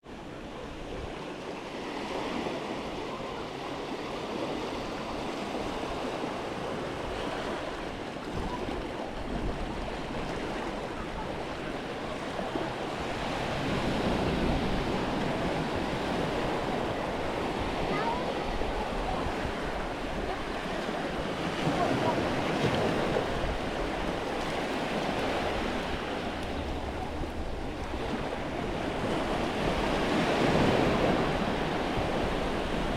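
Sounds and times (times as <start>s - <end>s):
waves washing onto beach: 0.1s - 32.9s
wind on microphone: 4.3s - 32.9s.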